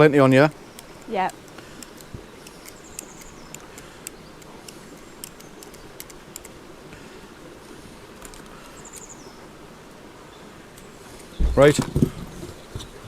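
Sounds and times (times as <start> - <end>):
faint ticks and crackles: 0.0 - 13.0.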